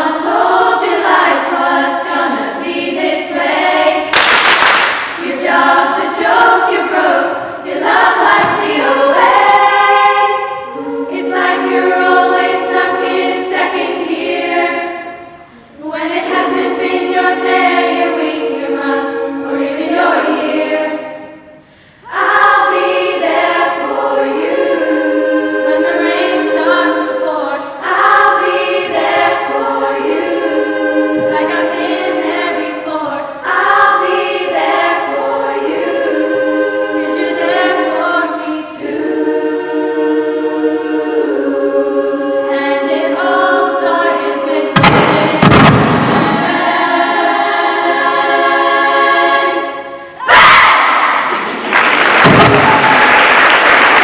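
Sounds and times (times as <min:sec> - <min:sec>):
girls choir singing: 0:00.0 - 0:54.0.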